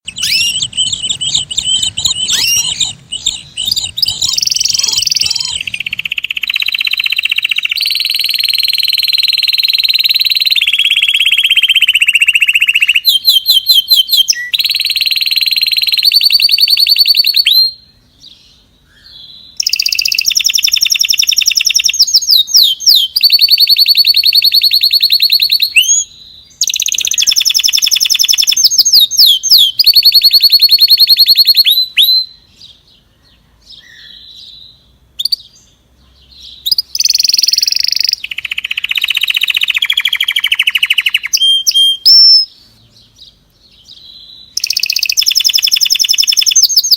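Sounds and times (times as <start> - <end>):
songbird trilling song: 0.0 - 46.9.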